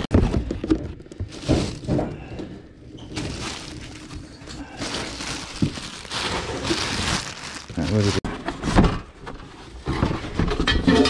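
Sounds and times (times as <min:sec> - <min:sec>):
items rustling and shuffling: 0:00.0 - 0:11.0.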